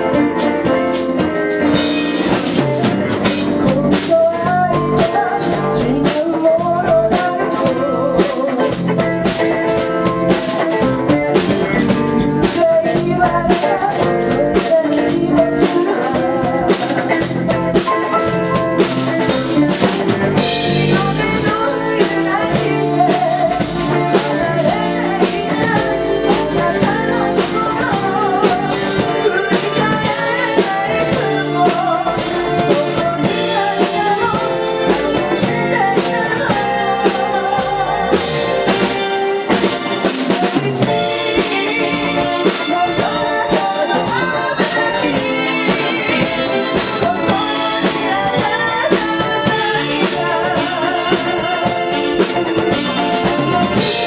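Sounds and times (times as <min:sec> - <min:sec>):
drum kit beat: 0:00.0 - 0:54.0
live band playing pop song: 0:00.0 - 0:54.0.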